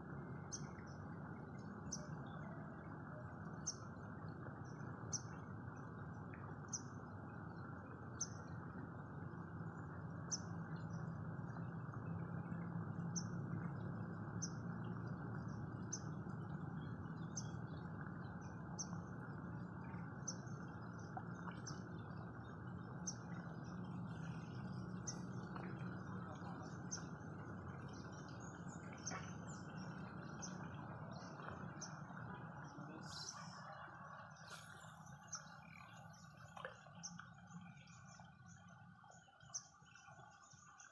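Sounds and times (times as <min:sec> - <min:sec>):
low outdoor rumble: 0:00.0 - 0:40.9.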